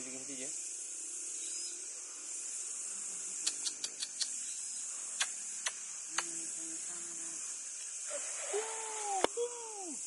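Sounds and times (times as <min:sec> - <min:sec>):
steady high-pitched hiss: 0:00.0 - 0:10.0.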